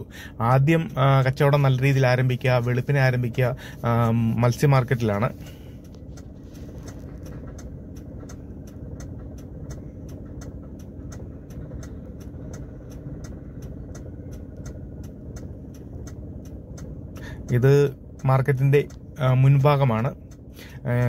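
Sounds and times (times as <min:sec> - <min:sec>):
fast even ticking: 0:00.0 - 0:21.0
road traffic rumble: 0:00.0 - 0:21.0.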